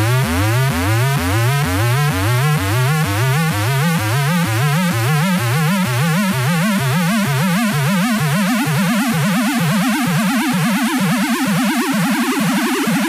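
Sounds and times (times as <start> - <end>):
electronic trance music: 0.0 - 13.0.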